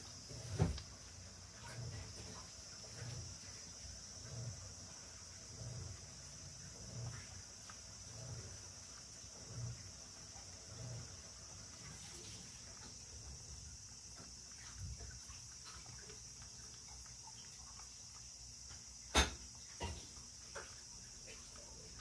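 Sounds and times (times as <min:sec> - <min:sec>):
high-pitched hiss: 0:00.0 - 0:22.0
cat lapping liquid: 0:00.3 - 0:22.0.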